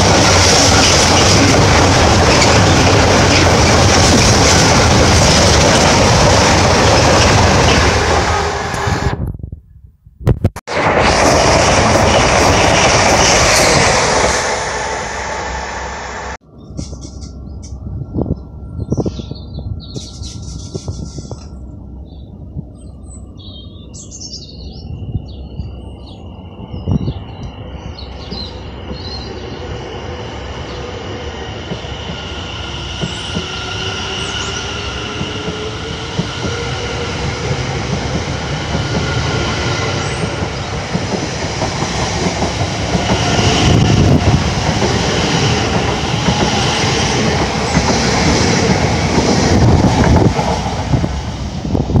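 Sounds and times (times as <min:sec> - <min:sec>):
train wheel noise: 0:00.0 - 0:09.3, 0:10.7 - 0:23.4, 0:25.3 - 0:52.0.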